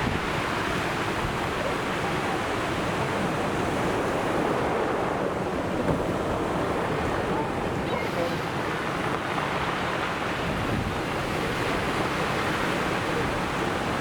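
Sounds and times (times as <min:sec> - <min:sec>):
ocean surf breaking on shore: 0:00.0 - 0:14.0
wind buffeting microphone: 0:00.0 - 0:14.0.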